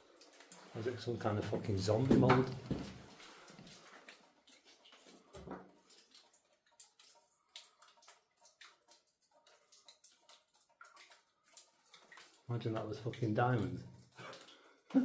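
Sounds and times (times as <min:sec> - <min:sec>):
faint ticks and taps: 0:01.4 - 0:14.6.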